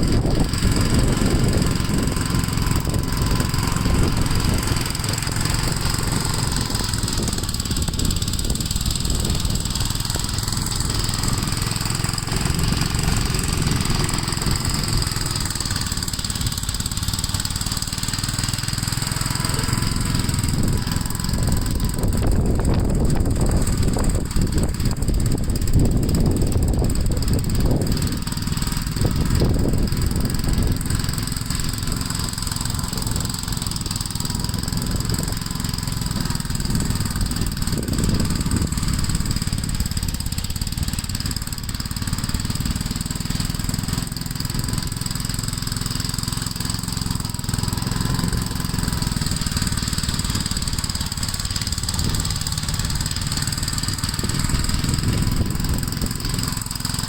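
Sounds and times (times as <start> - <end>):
small engine running under load: 0.0 - 57.0.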